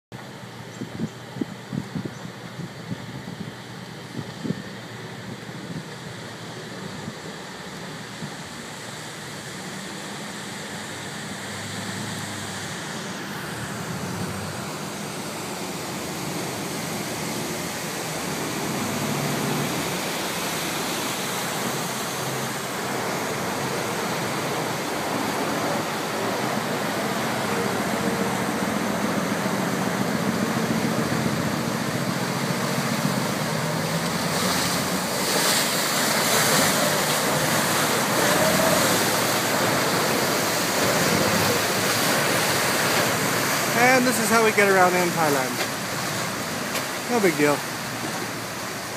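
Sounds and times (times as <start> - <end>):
boat diesel engine roaring: 0.2 - 48.9
water rushing and splashing: 0.2 - 48.9.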